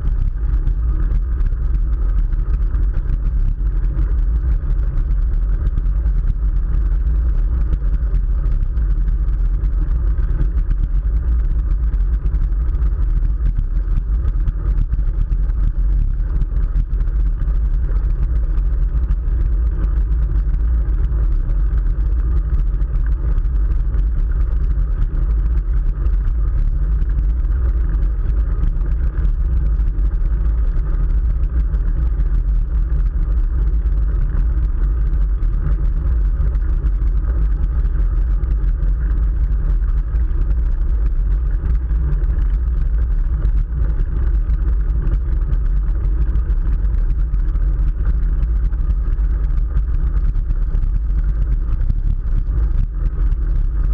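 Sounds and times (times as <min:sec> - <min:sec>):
bicycle road noise: 0:00.0 - 0:53.9
wind rumble on microphone: 0:00.0 - 0:53.9.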